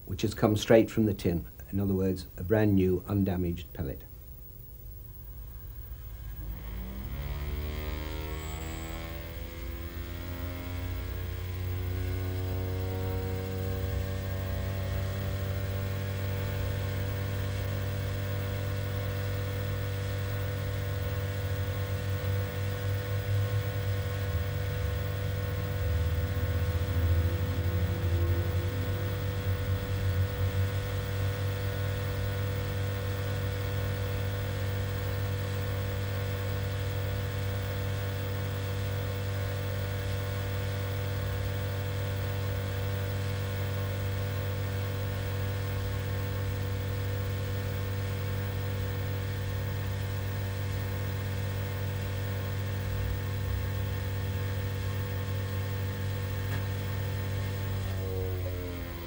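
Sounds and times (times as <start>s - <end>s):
vacuum cleaner motor humming: 6.0s - 59.0s.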